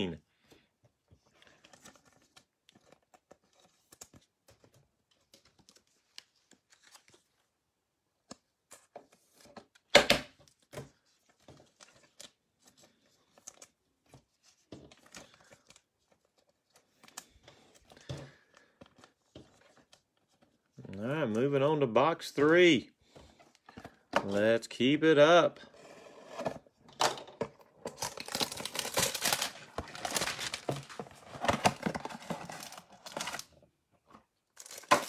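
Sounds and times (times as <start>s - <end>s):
cards and packaging rustling: 0.0s - 35.0s.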